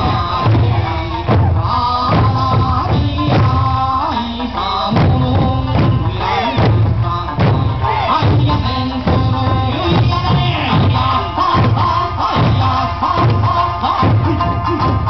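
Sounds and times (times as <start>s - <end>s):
large barrel drums: 0.0s - 15.0s
person singing folk melody: 0.0s - 15.0s
small hand drums: 0.0s - 15.0s.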